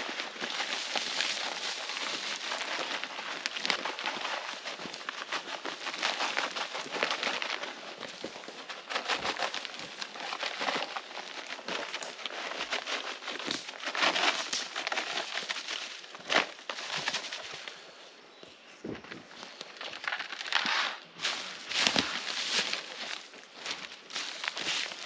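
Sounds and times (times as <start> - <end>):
dry brush crackling and rustling: 0.0 - 17.9, 18.5 - 25.0.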